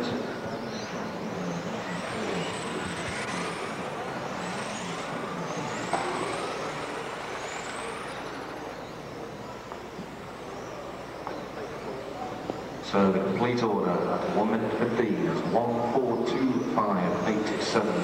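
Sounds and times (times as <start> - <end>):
rc car motors whining past: 0.0 - 18.0
steady rushing noise: 0.0 - 18.0.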